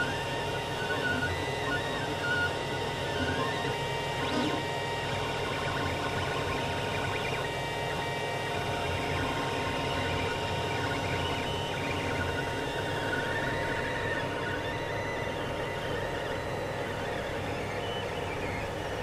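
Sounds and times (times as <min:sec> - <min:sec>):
mechanical hum: 0:00.0 - 0:19.0
stepper motors whining: 0:00.0 - 0:19.0.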